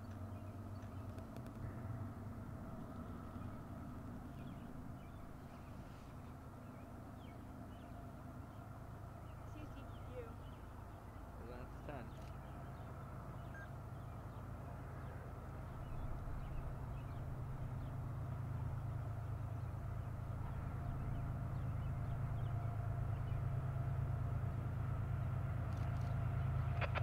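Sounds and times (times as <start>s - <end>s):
diesel train engine rumble: 0.0s - 27.0s
faint whining tones: 0.0s - 27.0s.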